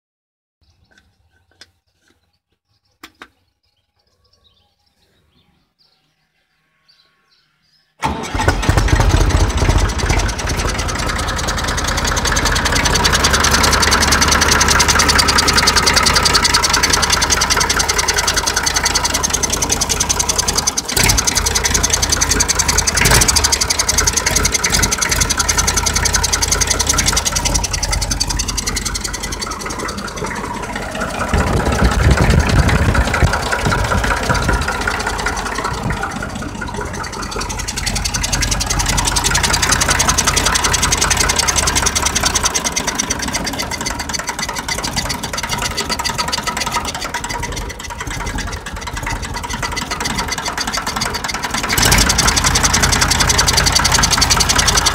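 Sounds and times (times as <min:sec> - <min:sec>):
diesel tractor engine running: 0:08.0 - 0:54.9.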